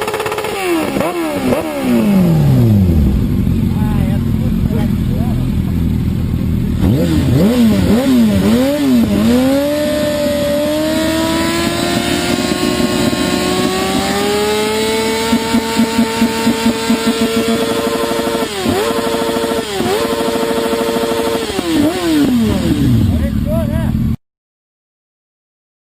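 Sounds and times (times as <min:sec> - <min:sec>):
motorcycle engine revving: 0:00.0 - 0:24.2.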